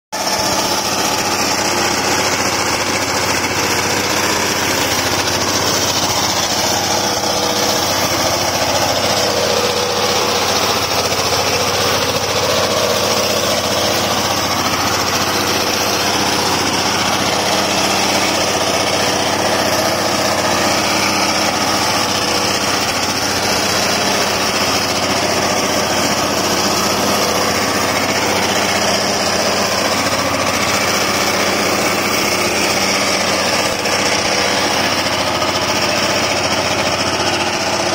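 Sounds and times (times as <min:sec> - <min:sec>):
harvester engine running: 0:00.1 - 0:37.9.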